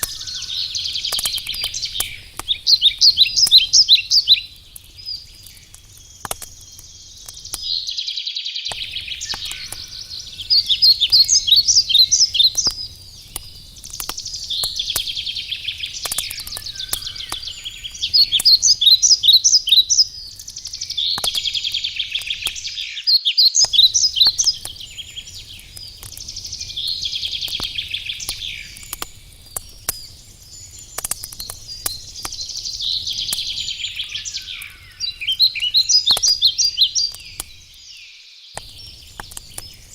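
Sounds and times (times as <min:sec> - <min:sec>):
campfire crackling and popping: 0:00.0 - 0:39.9
songbirds singing: 0:00.0 - 0:39.9.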